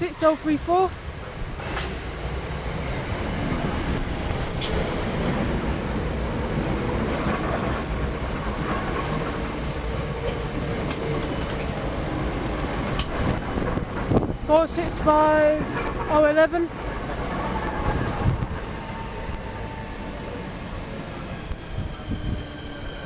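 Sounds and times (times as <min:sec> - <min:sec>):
train wheel and rail rumble: 0:00.0 - 0:23.0.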